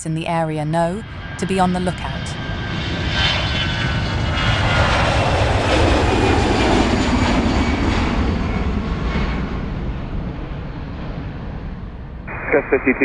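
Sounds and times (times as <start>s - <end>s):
airplane flying past: 1.0s - 12.2s.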